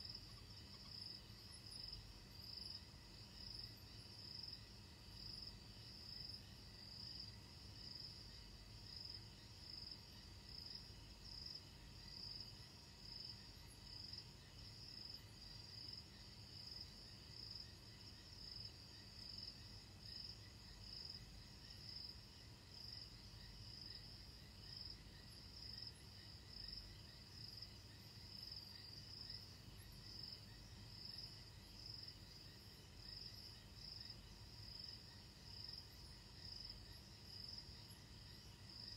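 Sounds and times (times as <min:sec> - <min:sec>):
night insects chirping: 0:00.0 - 0:38.9.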